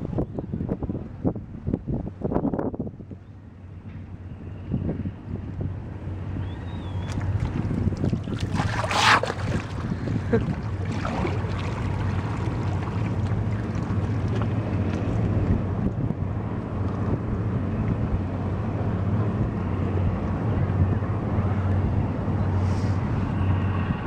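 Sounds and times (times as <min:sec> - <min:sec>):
boat engine hum: 0:00.0 - 0:24.0
wind buffeting microphone: 0:00.0 - 0:24.0.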